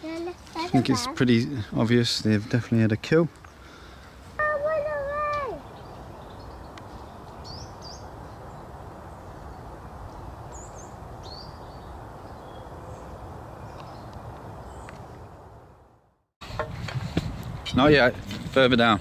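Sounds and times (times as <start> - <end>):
small birds chirping: 0.0 - 15.5
outdoor background hiss: 0.0 - 19.0.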